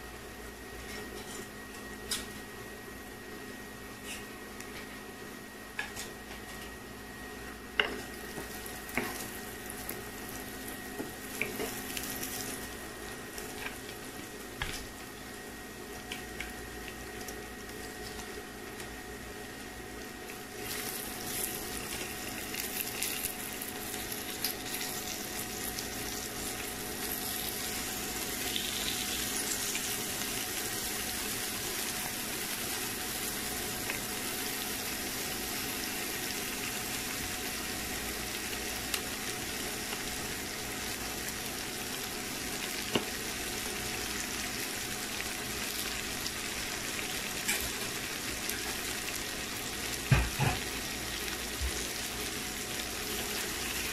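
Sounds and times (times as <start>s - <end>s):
food sizzling in a frying pan: 7.7s - 53.9s.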